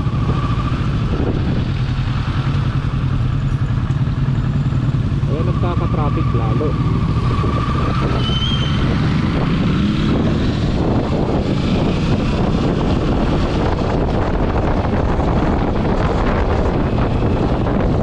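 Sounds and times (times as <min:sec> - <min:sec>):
wind rushing over microphone: 0:00.0 - 0:03.4, 0:05.0 - 0:18.0
motorcycle engine: 0:00.0 - 0:18.0
road noise: 0:00.0 - 0:18.0.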